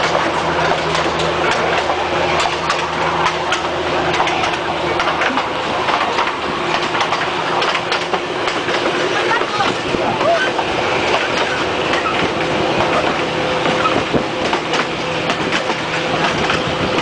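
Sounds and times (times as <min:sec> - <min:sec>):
low diesel engine hum: 0:00.0 - 0:17.0
wheels clattering over rails: 0:00.0 - 0:17.0.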